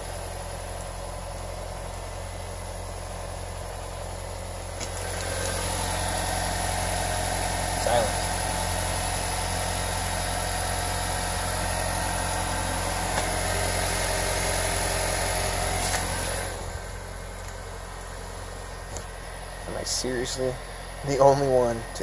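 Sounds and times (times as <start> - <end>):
car mechanical hum: 0.0 - 22.0.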